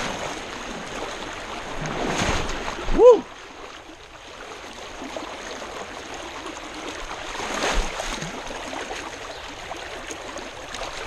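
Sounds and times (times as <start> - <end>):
creek water rushing over rapids: 0.0 - 11.0.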